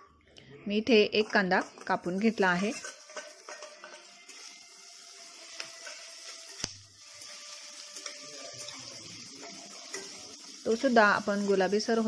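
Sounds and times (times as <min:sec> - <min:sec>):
onion sizzling in hot oil: 0:00.7 - 0:12.0.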